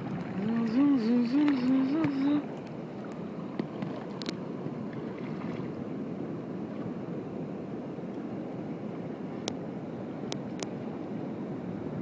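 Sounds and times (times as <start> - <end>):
water lapping around kayak: 0.0 - 12.0.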